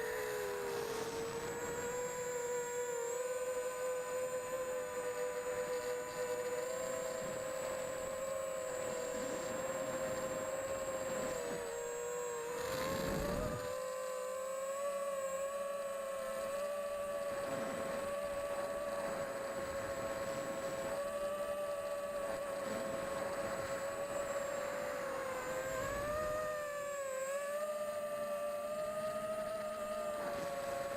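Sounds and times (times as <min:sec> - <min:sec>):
quadcopter motors whining: 0:00.0 - 0:30.9.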